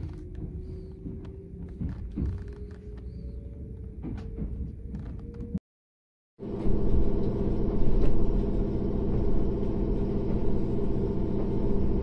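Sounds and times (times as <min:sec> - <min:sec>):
railway machinery rumble and hum: 0:00.0 - 0:05.6, 0:06.4 - 0:12.0.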